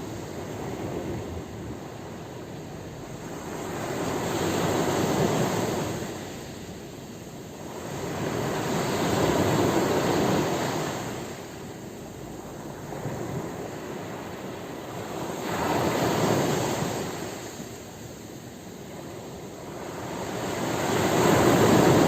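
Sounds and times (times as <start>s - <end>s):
sea waves rushing: 0.0s - 22.0s.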